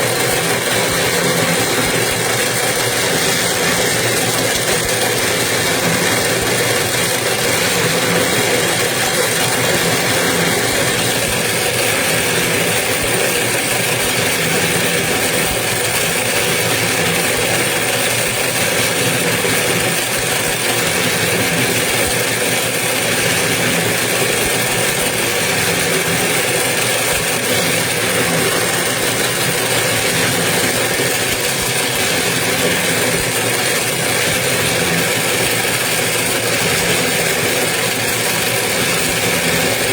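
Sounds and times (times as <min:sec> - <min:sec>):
winding machine motor humming: 0:00.0 - 0:39.9.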